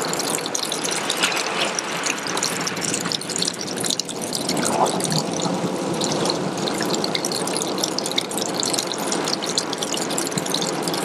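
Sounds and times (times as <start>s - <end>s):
water trickling onto pebbles: 0.0s - 11.0s.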